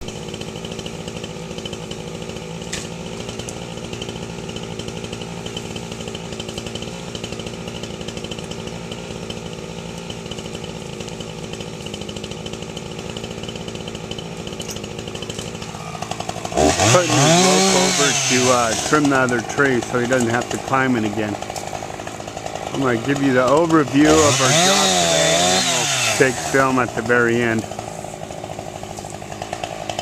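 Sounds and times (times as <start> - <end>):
chainsaw engine running: 0.0 - 30.0.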